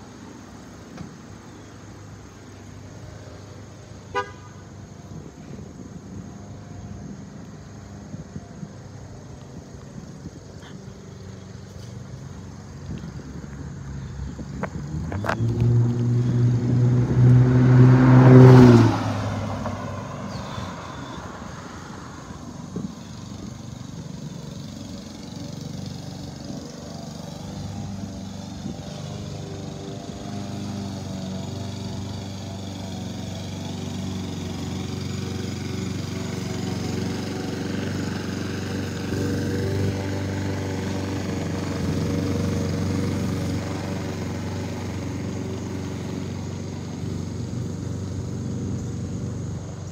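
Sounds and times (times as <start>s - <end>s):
vehicle engine hum: 0.0s - 49.9s.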